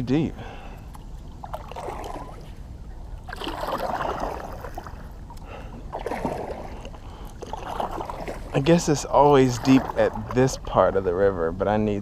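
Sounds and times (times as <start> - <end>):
kayak paddle splashing water: 0.8 - 10.7.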